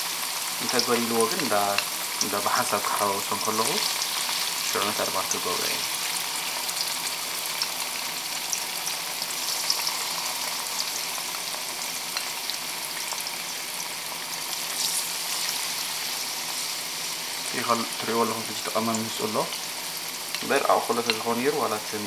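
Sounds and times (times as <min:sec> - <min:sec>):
tofu sizzling in oil: 0:00.0 - 0:22.0
oil popping and crackling: 0:00.2 - 0:21.6.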